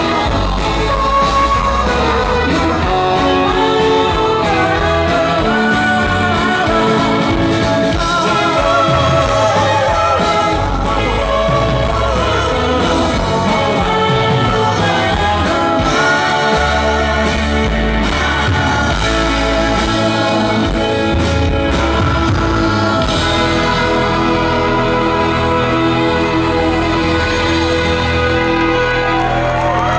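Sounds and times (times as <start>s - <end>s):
electric violin: 0.0s - 29.9s
live rock band playing: 0.0s - 29.9s.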